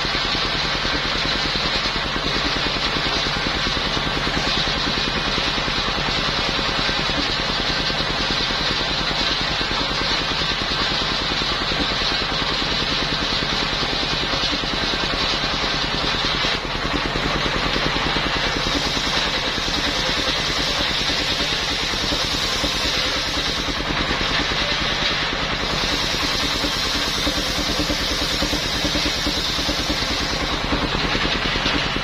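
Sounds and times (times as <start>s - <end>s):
circular sawmill running: 0.0s - 32.0s.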